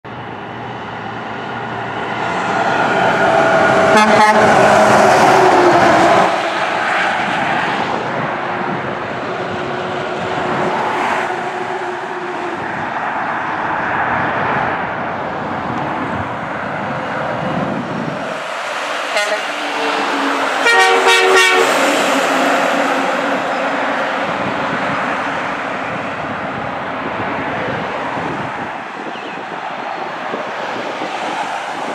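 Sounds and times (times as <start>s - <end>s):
trucks passing: 0.0s - 31.9s.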